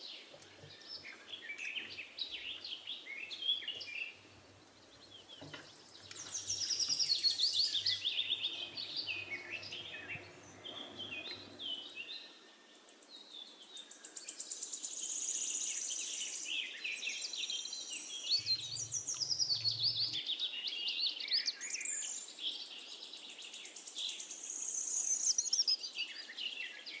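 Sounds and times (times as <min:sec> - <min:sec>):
many birds chirping and trilling: 0:00.0 - 0:27.0.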